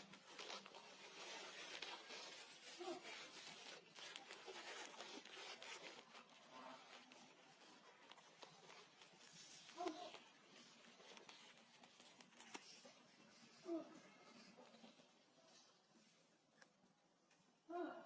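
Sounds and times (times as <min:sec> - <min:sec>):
monkeys rustling and scratching: 0:00.0 - 0:16.9.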